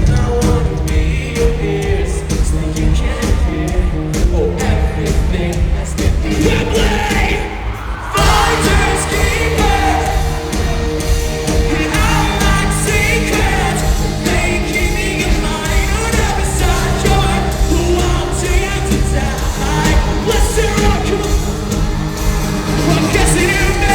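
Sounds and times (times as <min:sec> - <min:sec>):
live rock band: 0:00.0 - 0:23.9
person singing lead vocal: 0:00.0 - 0:23.9.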